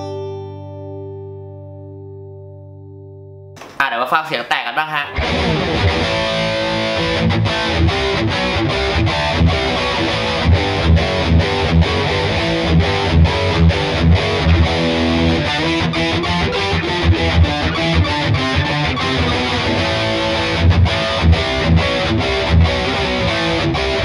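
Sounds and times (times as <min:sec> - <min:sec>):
distorted electric guitar riff: 0:04.6 - 0:24.0.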